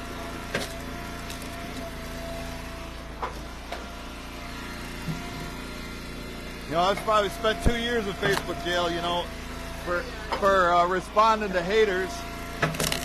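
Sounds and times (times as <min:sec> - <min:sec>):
wood splitter engine running: 0:00.0 - 0:13.0.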